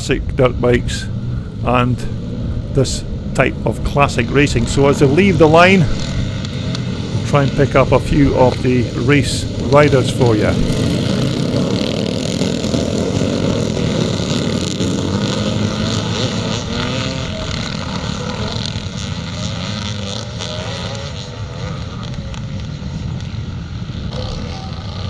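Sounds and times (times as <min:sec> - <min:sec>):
motocross bikes revving: 0:00.0 - 0:25.0.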